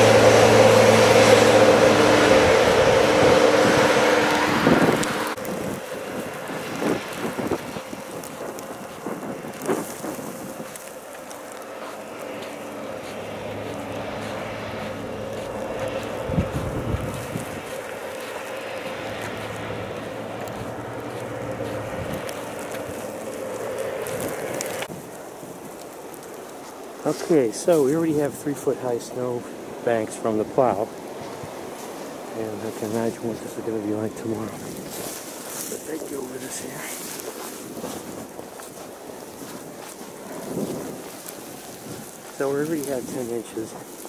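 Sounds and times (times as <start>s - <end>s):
wind blasting microphone: 0.0s - 11.6s, 12.2s - 44.0s
footsteps crunching in snow: 0.0s - 44.0s
low engine hum: 0.0s - 44.0s.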